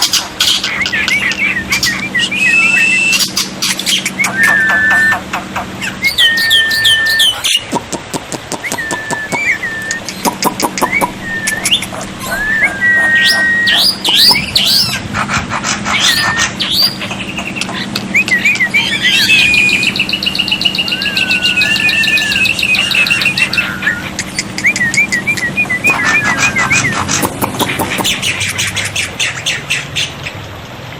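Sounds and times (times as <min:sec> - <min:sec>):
bird trill: 0:00.0 - 0:07.8, 0:08.6 - 0:30.4
myna whistling and chattering: 0:00.0 - 0:15.1, 0:15.8 - 0:29.7.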